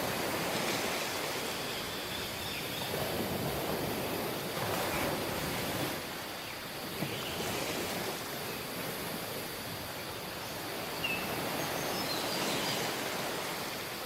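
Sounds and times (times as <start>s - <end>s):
surf washing: 0.0s - 14.0s.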